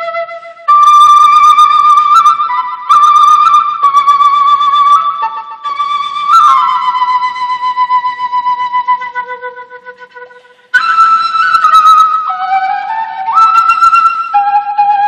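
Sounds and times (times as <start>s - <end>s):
wooden end-blown flute melody: 0.0s - 15.0s.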